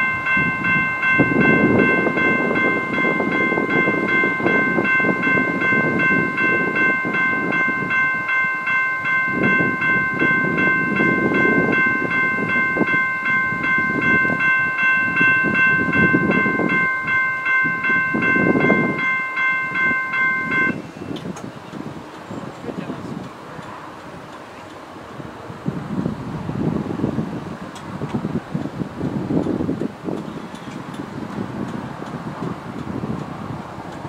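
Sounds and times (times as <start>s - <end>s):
railroad crossing bell ringing: 0.0s - 24.8s, 28.7s - 34.0s
train rumbling past: 0.0s - 34.0s.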